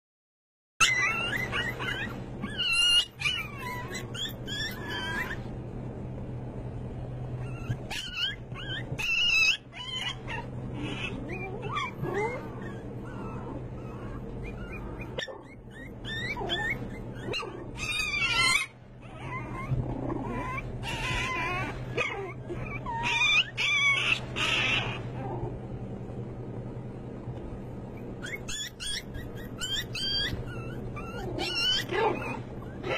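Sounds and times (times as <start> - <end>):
puppies whimpering and yipping: 0.8 - 5.5, 7.3 - 25.5, 27.9 - 32.9
low hum: 0.9 - 32.9.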